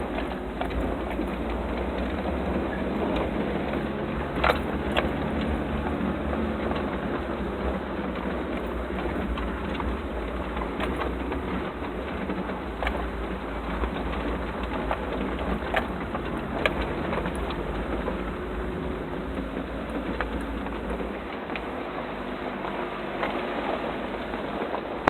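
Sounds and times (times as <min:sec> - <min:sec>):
vehicle engine rumble: 0:00.0 - 0:25.0
vehicle rattling: 0:00.0 - 0:25.0.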